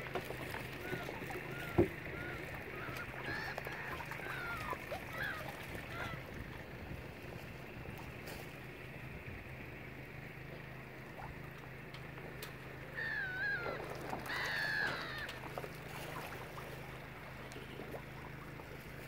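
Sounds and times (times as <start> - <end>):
gulls calling: 0.0 - 19.0
steady low hum: 0.0 - 19.0.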